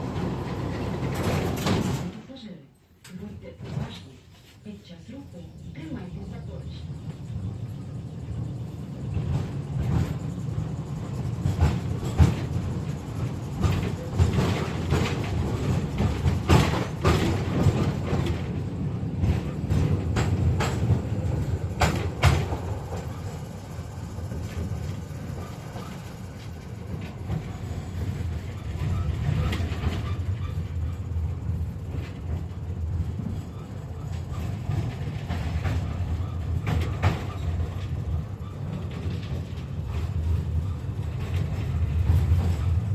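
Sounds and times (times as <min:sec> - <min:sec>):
wheels clattering over rails: 0:00.0 - 0:02.2, 0:07.2 - 0:42.9
tram rumbling: 0:00.0 - 0:42.9.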